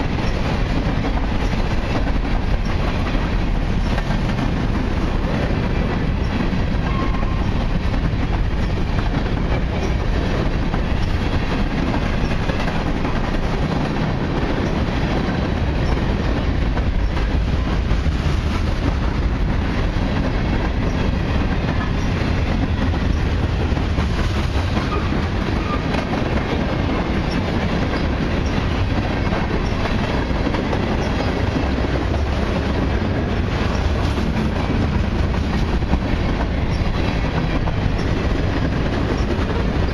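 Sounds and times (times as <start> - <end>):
freight train wheels rumbling on rail: 0.0 - 39.9
wheels clicking over rail joints: 0.0 - 39.9.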